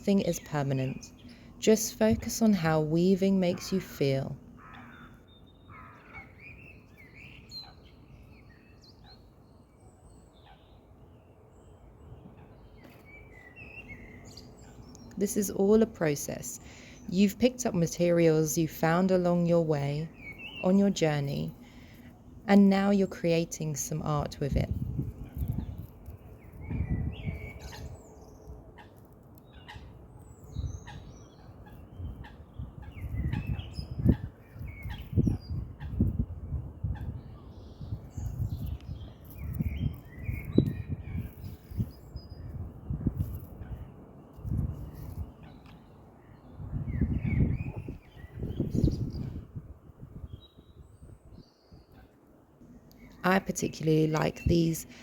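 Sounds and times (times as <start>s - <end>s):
small birds chirping: 0.0s - 49.6s, 50.2s - 55.0s.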